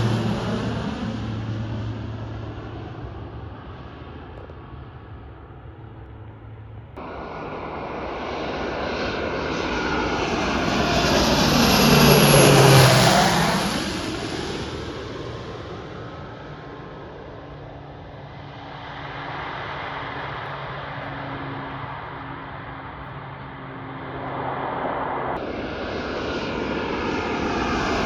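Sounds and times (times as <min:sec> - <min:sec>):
airplane flying past: 0:00.0 - 0:28.0
steady engine hum: 0:00.0 - 0:28.0.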